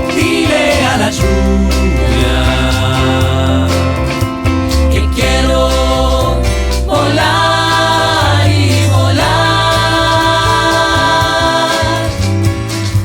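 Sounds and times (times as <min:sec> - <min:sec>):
voices singing held notes: 0:00.0 - 0:12.3
steady bass: 0:00.0 - 0:13.0.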